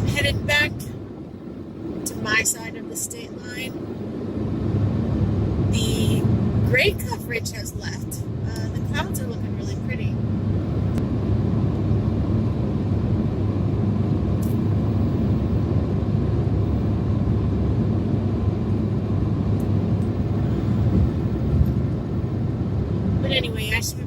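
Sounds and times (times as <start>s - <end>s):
car cabin road noise: 0.0s - 24.0s.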